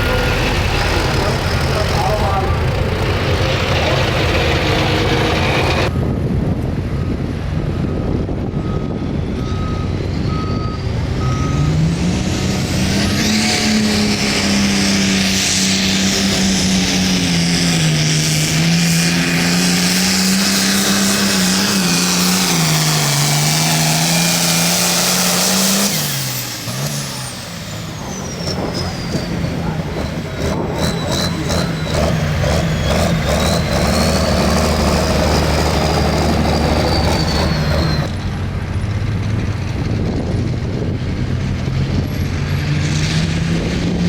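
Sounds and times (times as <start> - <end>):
diesel tractor engine: 0.0 - 44.0.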